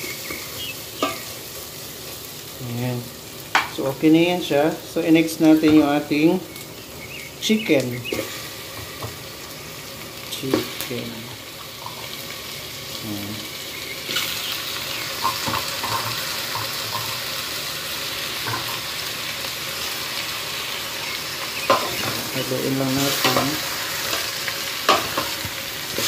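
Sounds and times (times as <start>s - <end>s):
chicken sizzling in oil: 0.0s - 26.0s.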